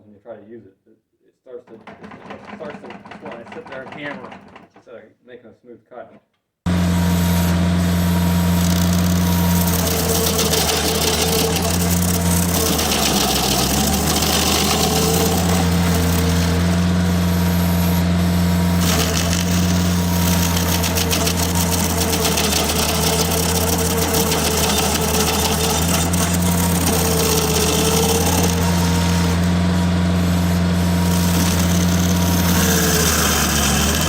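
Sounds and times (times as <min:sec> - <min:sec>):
tractor engine running: 0:01.7 - 0:04.8, 0:06.7 - 0:34.0
stump grinder gritty clatter: 0:01.7 - 0:05.0, 0:06.7 - 0:34.0.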